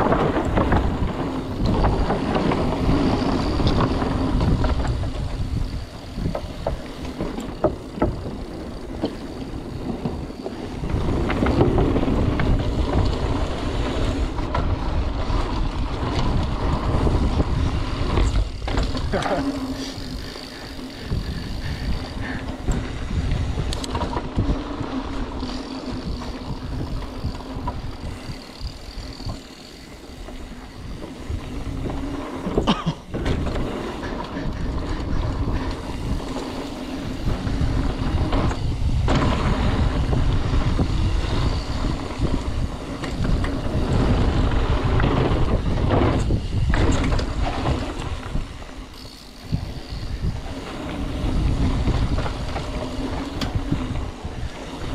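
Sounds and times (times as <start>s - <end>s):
bike knocks and rattles: 0.0s - 54.9s
tyres rumbling on dirt: 0.0s - 54.9s
wind rushing over microphone: 0.0s - 54.9s.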